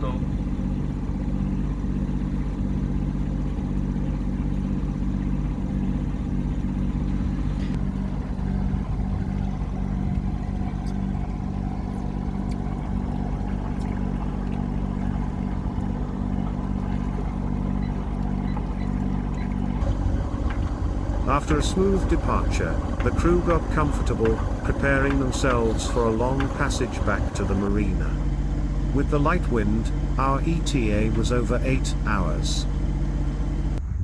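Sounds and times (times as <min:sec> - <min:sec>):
boat diesel engine humming: 0:00.0 - 0:33.8.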